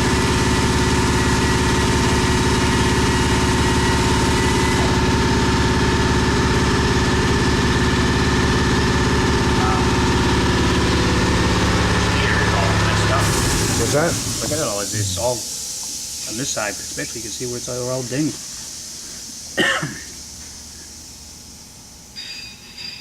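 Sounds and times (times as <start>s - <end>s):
workshop machinery humming: 0.0s - 23.0s.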